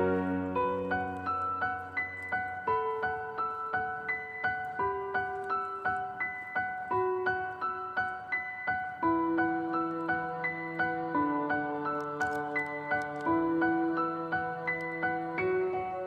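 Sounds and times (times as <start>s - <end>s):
soft piano-like keyboard melody: 0.0s - 16.0s.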